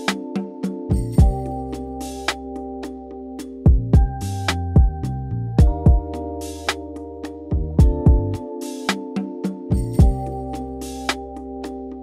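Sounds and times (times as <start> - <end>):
keyboard chords over a beat: 0.0 - 12.0.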